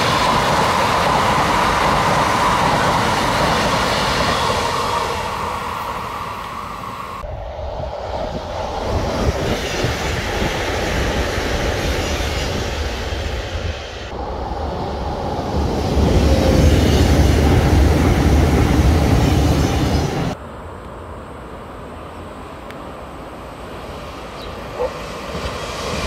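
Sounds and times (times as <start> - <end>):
high-speed train passing: 0.0 - 26.0.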